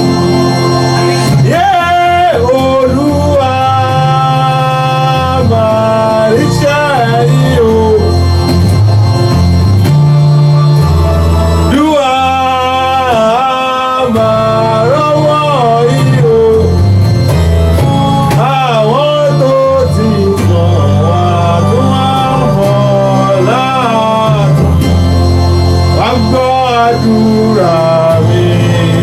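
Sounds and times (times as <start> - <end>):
person singing: 0.0 - 8.4, 11.4 - 25.2, 25.8 - 29.0
sliding ornamented melody: 0.0 - 29.0
steady bass: 0.0 - 29.0.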